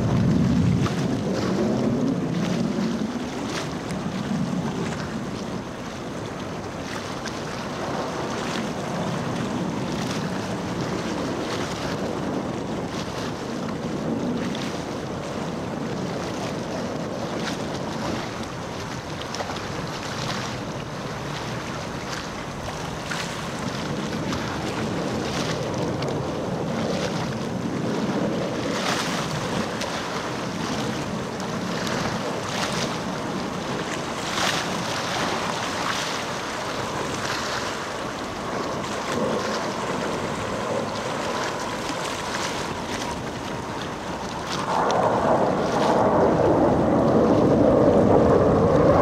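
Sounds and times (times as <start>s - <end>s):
distant jet roar: 0.0s - 49.0s
wind buffeting microphone: 0.0s - 49.0s.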